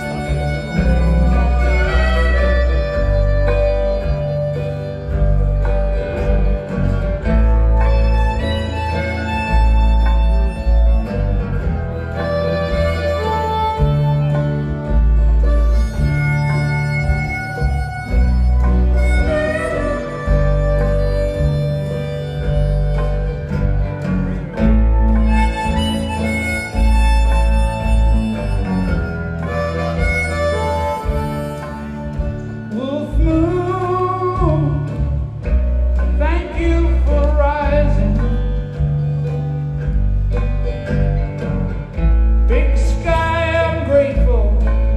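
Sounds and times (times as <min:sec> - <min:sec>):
guitar: 0:00.0 - 0:44.9
harmonica melody: 0:00.0 - 0:44.9
pulsing bass: 0:00.0 - 0:44.9.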